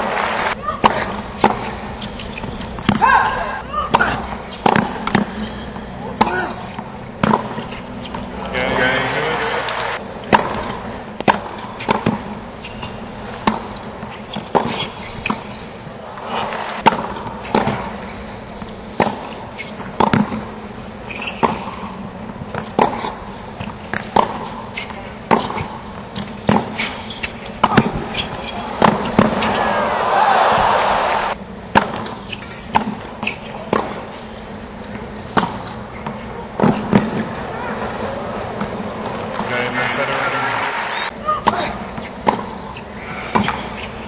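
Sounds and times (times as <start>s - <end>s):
low crowd background: 0.0s - 32.3s, 32.9s - 44.0s.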